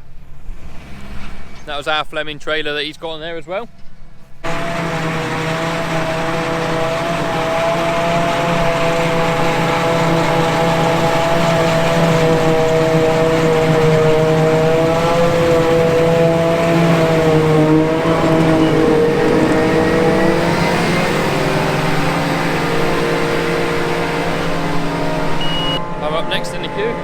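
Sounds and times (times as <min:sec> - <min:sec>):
diesel engine running under load: 0:00.0 - 0:27.0
steady machine whine: 0:03.3 - 0:27.0.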